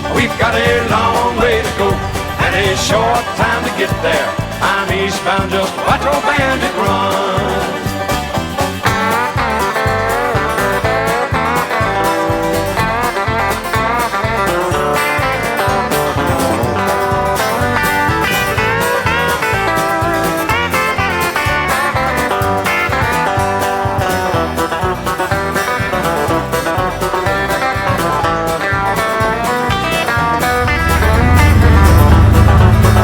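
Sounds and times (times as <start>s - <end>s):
uptempo country band with guitars: 0.0s - 33.0s.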